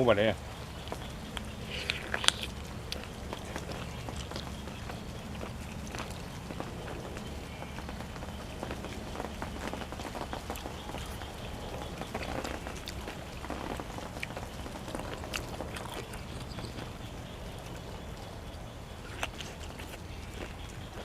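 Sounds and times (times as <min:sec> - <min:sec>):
steady low hum: 0:00.0 - 0:21.0
person chewing and crunching food: 0:00.6 - 0:21.0.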